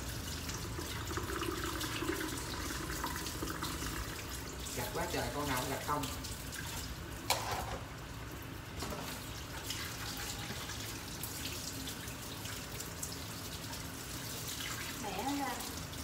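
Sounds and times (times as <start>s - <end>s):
faucet water splashing in sink: 0.0s - 16.0s.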